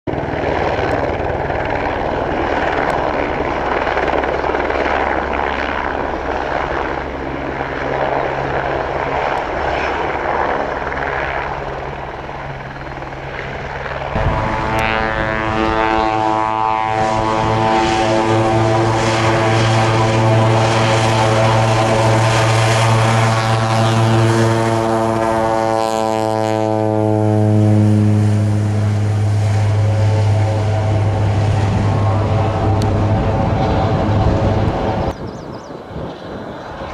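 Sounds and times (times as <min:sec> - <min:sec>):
helicopter hovering: 0:00.1 - 0:36.9
propeller plane taking off: 0:00.1 - 0:36.9.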